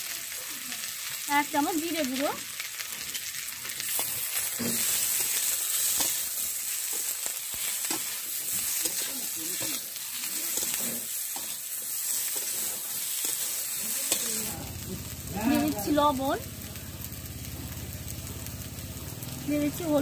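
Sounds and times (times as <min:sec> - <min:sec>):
potatoes sizzling in oil: 0:00.0 - 0:20.0.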